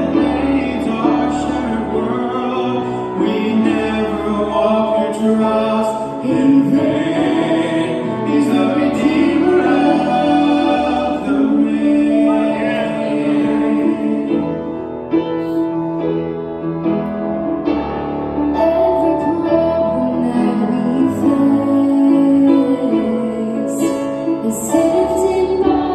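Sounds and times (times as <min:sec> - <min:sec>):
singers performing gospel song: 0:00.0 - 0:15.6, 0:18.6 - 0:25.9.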